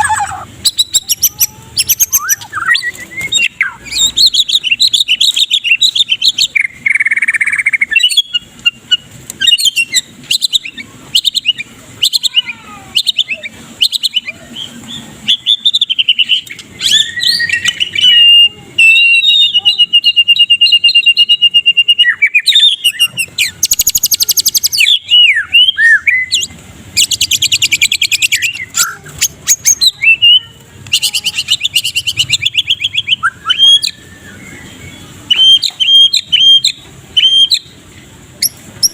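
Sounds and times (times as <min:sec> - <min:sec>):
bird singing whistles and chirps: 0:00.0 - 0:37.8.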